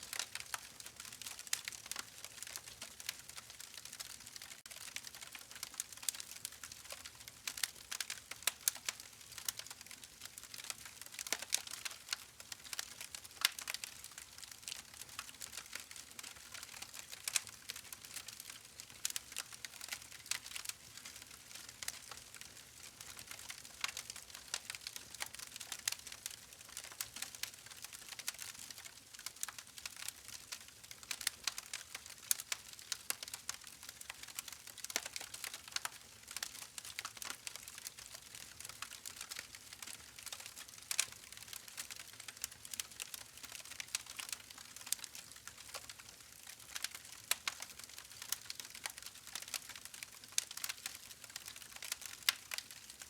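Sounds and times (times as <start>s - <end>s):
campfire crackling and popping: 0.1s - 53.0s.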